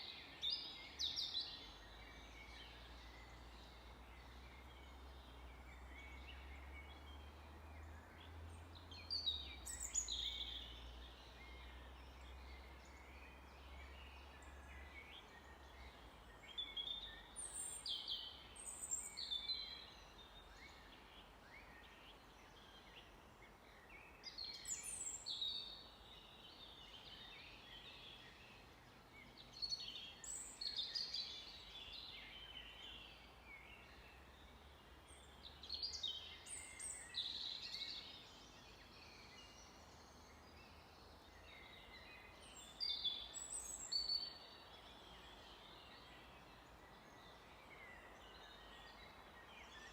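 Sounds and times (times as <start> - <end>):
faint steady hiss: 0.0 - 49.9
songbirds singing: 0.0 - 49.9.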